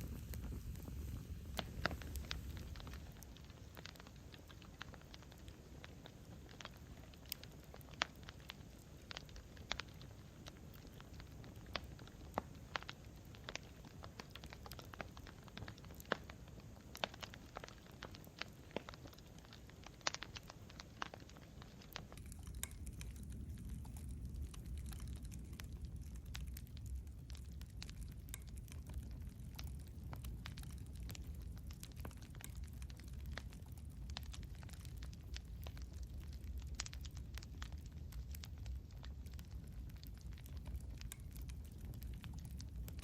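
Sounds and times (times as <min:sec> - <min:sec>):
campfire snaps and pops: 0:00.0 - 0:43.0
low rumble of flames: 0:00.0 - 0:43.0.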